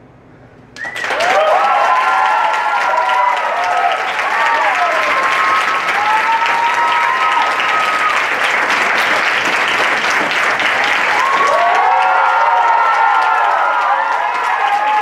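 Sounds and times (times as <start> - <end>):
audience applauding: 0.8 - 15.0
people cheering: 0.8 - 15.0.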